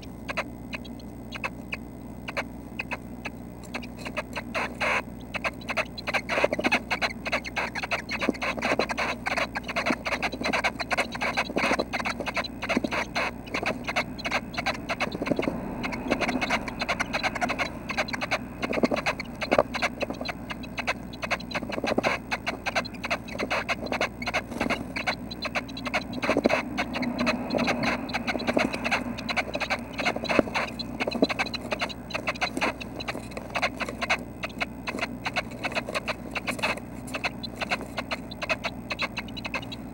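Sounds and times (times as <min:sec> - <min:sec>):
nestlings rustling and scratching: 0:00.0 - 0:39.9.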